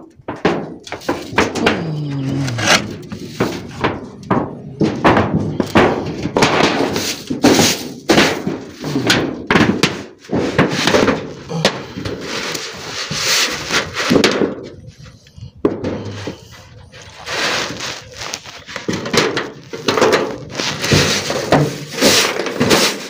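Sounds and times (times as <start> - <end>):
roof tiles thunking and scraping: 0.0 - 23.0.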